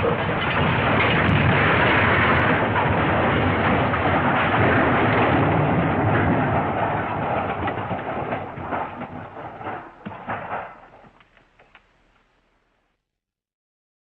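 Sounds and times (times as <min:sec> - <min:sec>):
loud crash: 0:00.0 - 0:11.7
debris clicks and rattles: 0:00.0 - 0:11.8.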